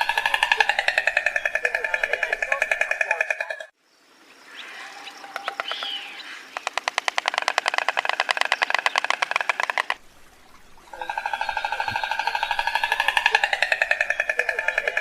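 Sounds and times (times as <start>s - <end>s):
stork clattering its bill: 0.0s - 3.7s, 5.3s - 15.0s
faint chirping calls: 0.0s - 15.0s.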